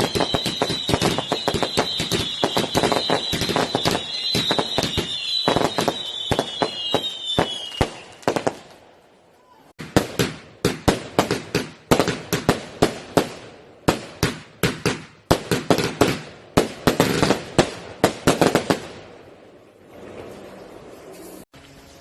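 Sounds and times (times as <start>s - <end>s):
fireworks bangs: 0.0s - 9.0s, 9.8s - 21.5s.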